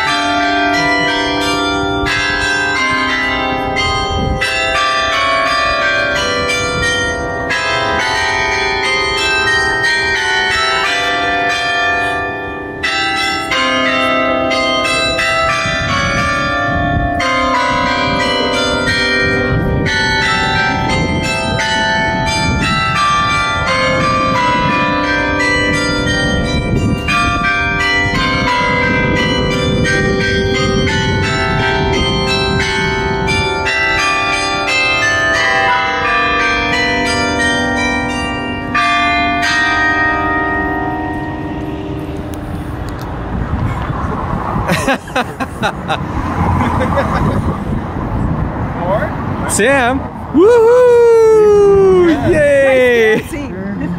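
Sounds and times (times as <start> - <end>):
carillon bells ringing a tune: 0.0 - 43.8, 44.7 - 46.0.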